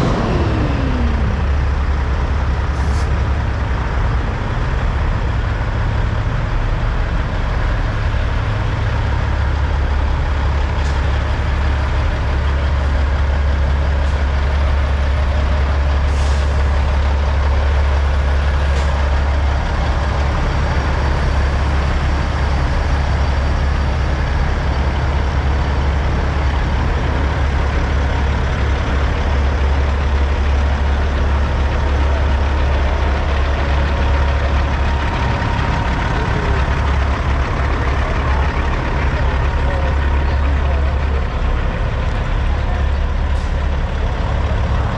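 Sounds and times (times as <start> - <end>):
diesel truck engines idling: 0.0 - 44.9.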